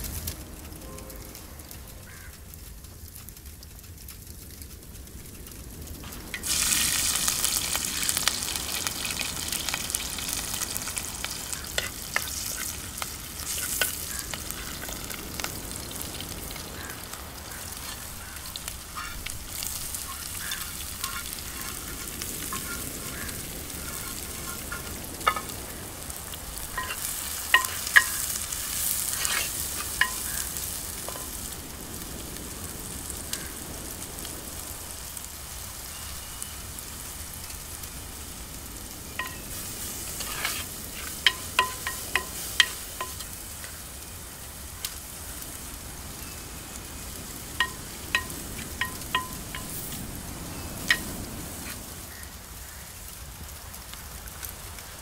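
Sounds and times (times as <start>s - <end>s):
shallots sizzling in hot oil: 0.0s - 4.2s, 5.0s - 55.0s.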